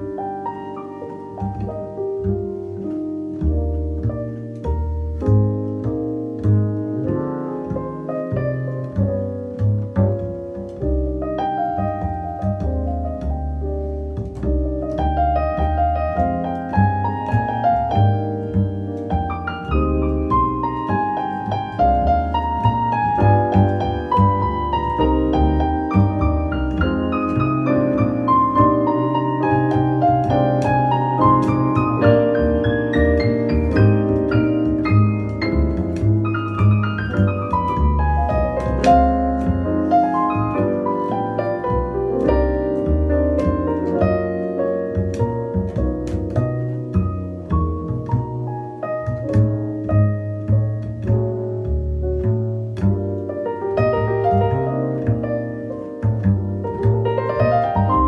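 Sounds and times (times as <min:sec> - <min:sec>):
digital piano: 0:00.0 - 0:58.0
plucked double bass: 0:00.0 - 0:58.0.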